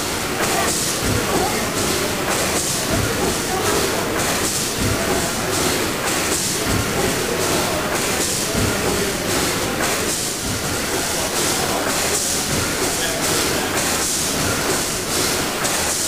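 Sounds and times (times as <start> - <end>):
rhythmic steam hiss: 0.0 - 16.0
steam engine mechanical clatter: 0.0 - 16.0.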